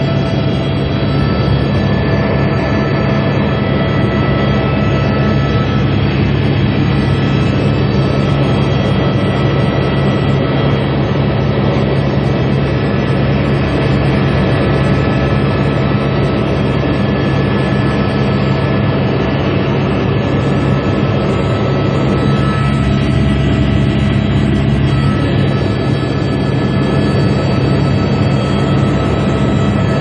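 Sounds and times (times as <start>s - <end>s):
helicopter engine and rotor noise: 0.0s - 30.0s
high whine: 0.0s - 30.0s.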